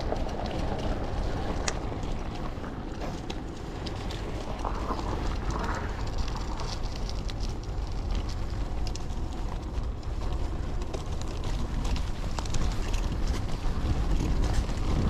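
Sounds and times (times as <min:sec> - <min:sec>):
bicycle clattering and rattling: 0:00.0 - 0:15.0
wind buffeting microphone: 0:00.0 - 0:15.0.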